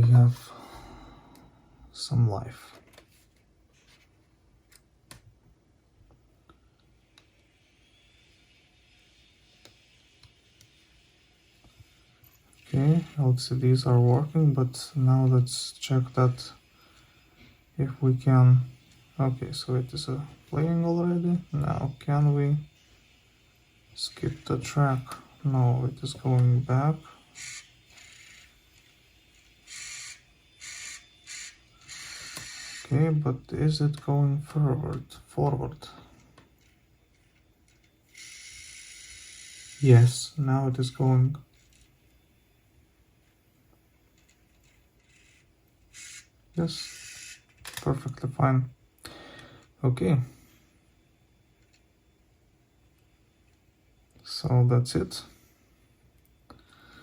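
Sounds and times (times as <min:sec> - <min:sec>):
faint high whir: 0:06.4 - 0:57.0.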